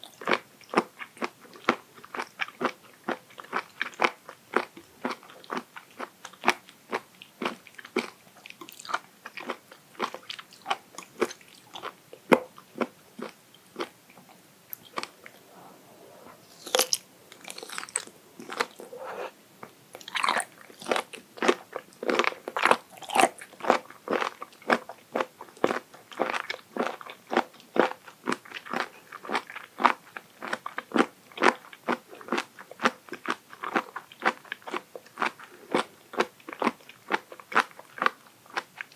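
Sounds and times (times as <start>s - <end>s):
crunchy food being chewed: 0.0s - 15.6s, 16.2s - 38.9s.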